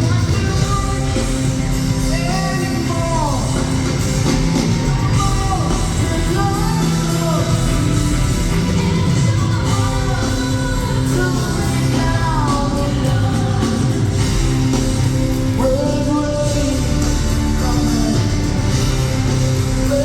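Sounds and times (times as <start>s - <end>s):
live rock band playing: 0.0s - 20.0s
person singing: 0.0s - 20.0s.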